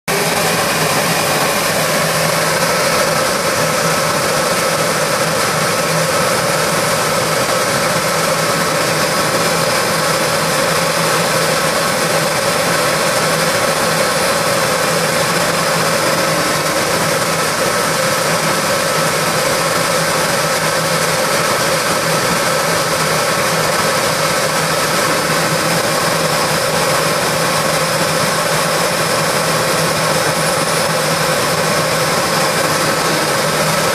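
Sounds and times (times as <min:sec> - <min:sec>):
router spindle droning and whining: 0:00.1 - 0:33.9.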